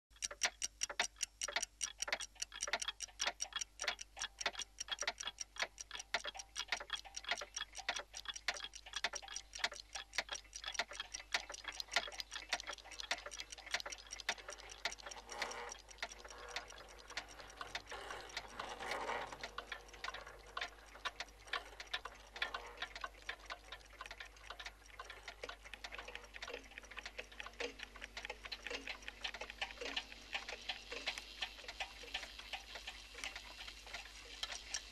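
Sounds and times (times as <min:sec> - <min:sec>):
many clocks ticking: 0:00.1 - 0:34.9.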